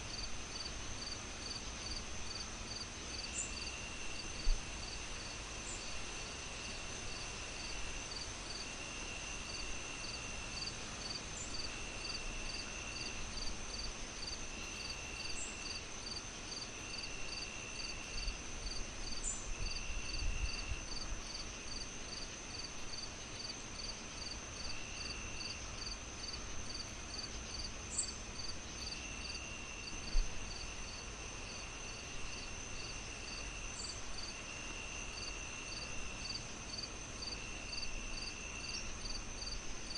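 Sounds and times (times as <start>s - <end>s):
lower insect trill: 0.1s - 6.0s, 6.6s - 39.9s
pulsing cricket chirp: 0.1s - 39.9s
high insect trill: 7.1s - 39.9s.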